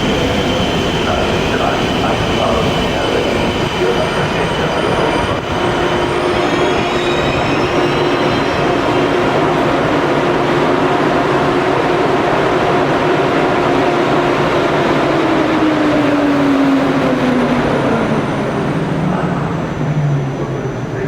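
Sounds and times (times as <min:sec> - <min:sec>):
train drive whine: 0:00.0 - 0:21.0
train wheels rushing on rails: 0:00.0 - 0:21.0.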